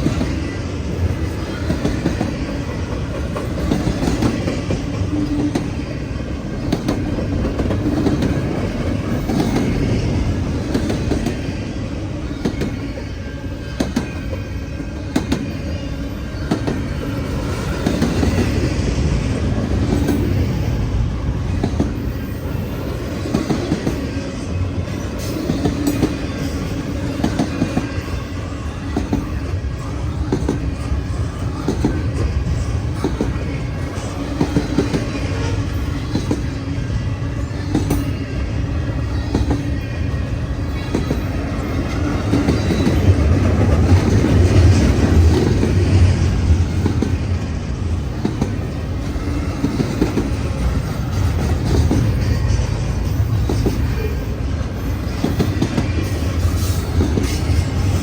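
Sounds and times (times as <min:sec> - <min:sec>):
train wheels clacking on rail joints: 0:00.0 - 0:11.6, 0:12.2 - 0:58.0
freight train rumbling past: 0:00.0 - 0:58.0.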